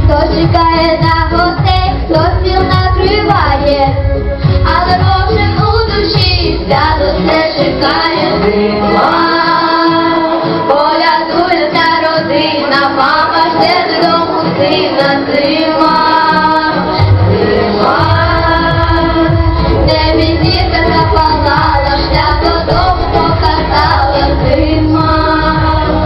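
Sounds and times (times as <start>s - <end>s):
backing music: 0.0s - 26.0s
women and children singing: 0.0s - 26.0s.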